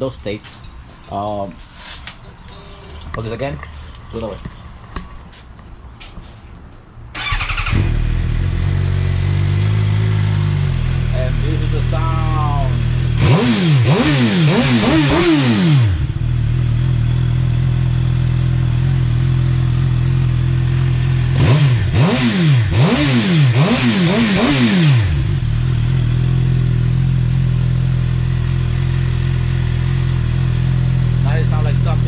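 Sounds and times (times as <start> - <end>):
motorcycle engine idling and revving: 2.5 - 5.4, 7.2 - 32.0.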